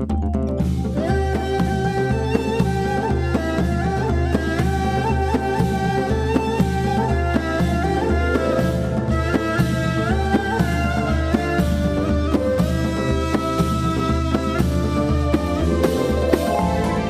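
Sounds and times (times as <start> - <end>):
instrumental music with beat: 0.0 - 17.0.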